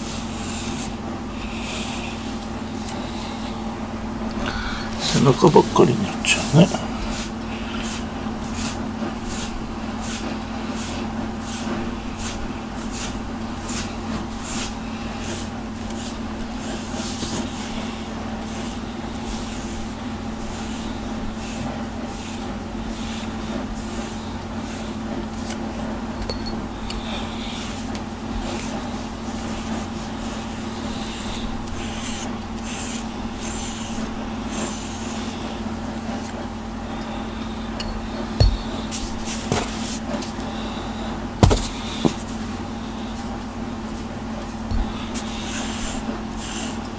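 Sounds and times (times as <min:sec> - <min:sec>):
steady low hum: 0:00.0 - 0:46.9
hand rubbing cat fur: 0:05.0 - 0:26.2, 0:27.0 - 0:46.9.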